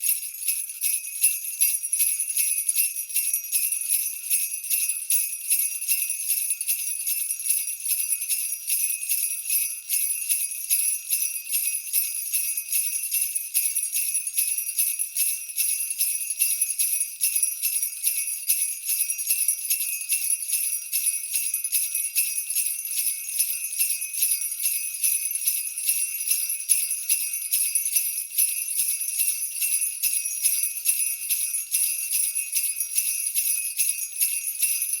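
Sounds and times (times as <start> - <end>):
jingle bells shaken: 0.0 - 35.0.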